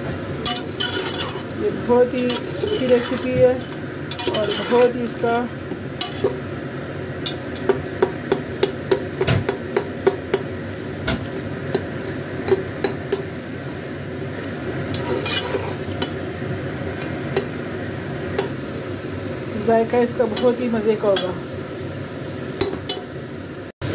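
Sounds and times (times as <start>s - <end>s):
food sizzling in oil: 0.0s - 23.9s.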